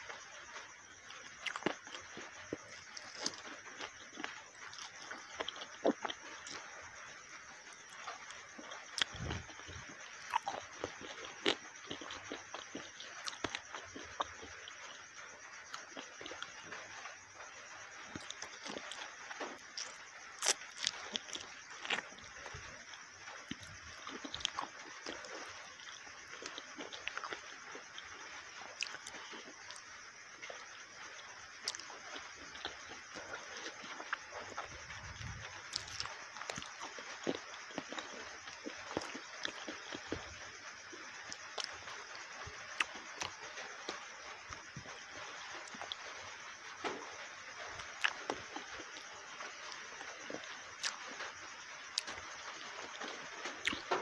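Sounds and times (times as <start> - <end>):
wet chewing: 1.0 - 17.0, 18.1 - 46.3, 46.9 - 54.0.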